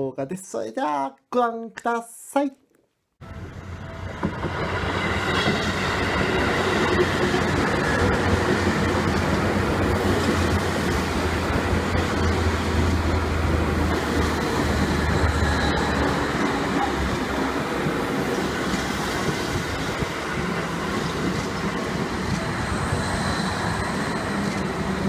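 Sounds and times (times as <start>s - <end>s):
electric train running past: 3.2s - 25.0s.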